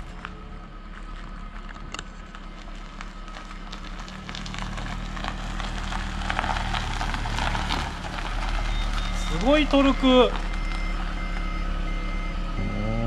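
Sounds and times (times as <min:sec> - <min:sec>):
tyres crunching over gravel: 0:00.0 - 0:11.9
low drivetrain hum: 0:00.0 - 0:13.0.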